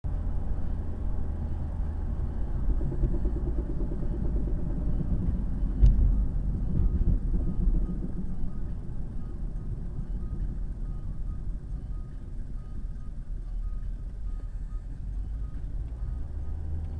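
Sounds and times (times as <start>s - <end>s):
car road rumble: 0.0s - 16.9s.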